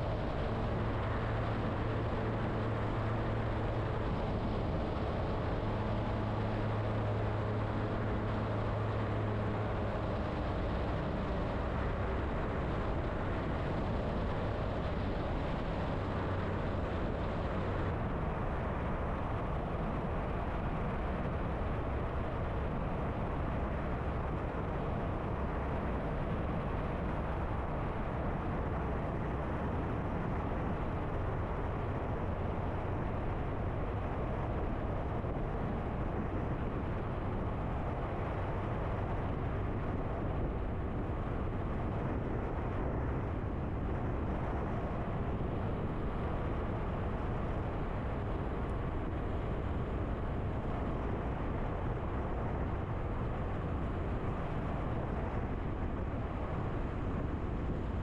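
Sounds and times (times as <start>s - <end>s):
light aircraft engine drone: 0.0s - 58.0s
low steady hum: 0.0s - 58.0s
wind noise: 0.0s - 58.0s.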